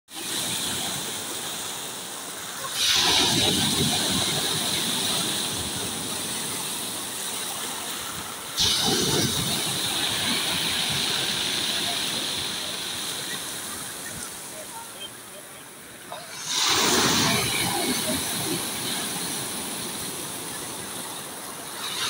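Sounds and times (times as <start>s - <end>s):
waves breaking on pebbles: 2.5s - 14.5s, 16.2s - 22.0s.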